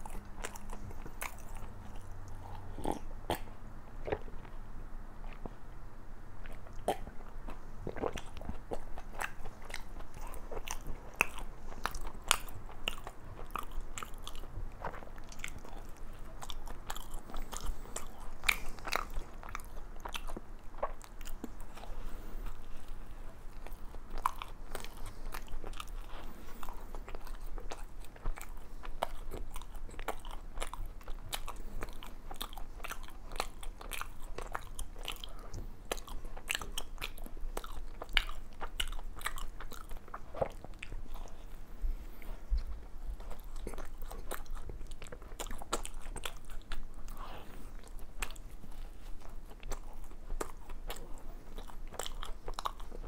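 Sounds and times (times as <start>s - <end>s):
chewing doughnut: 0.0s - 5.8s, 6.4s - 53.0s.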